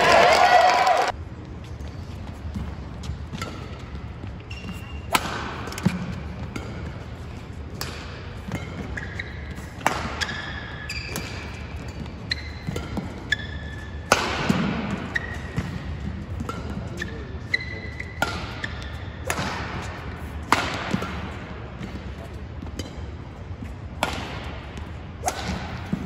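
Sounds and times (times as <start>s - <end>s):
shoes squeaking on court: 1.3s - 26.0s
rackets striking shuttlecock: 2.6s - 26.0s.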